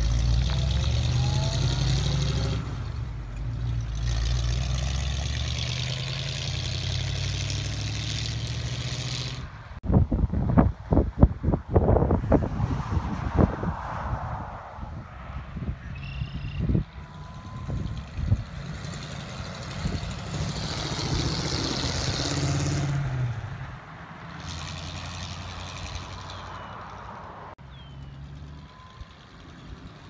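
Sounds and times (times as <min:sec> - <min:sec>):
distant car engine approaching: 0:00.0 - 0:30.0.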